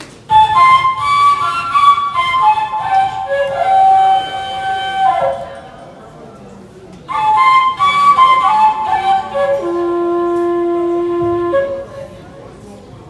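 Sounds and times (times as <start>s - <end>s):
flute melody: 0.3s - 6.0s, 7.1s - 12.4s.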